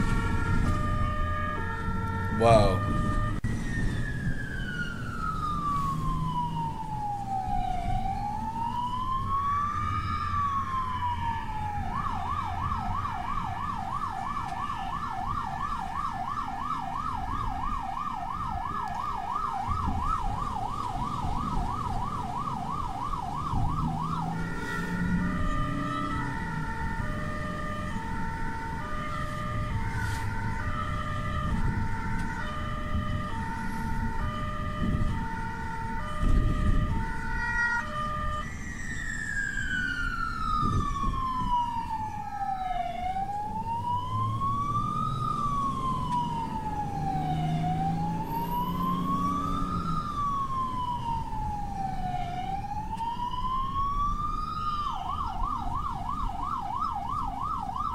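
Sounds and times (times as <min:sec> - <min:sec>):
emergency vehicle sirens: 0:00.0 - 0:57.9
road and engine noise: 0:00.0 - 0:57.9.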